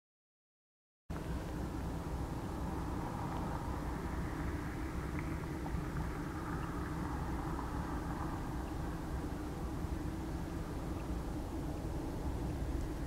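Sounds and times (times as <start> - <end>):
distant diesel train rumble: 1.2 - 13.0.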